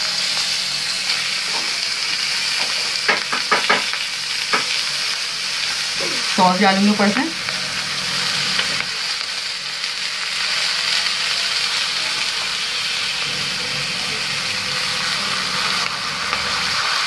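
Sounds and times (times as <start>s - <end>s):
hot plate sizzling: 0.0s - 17.0s.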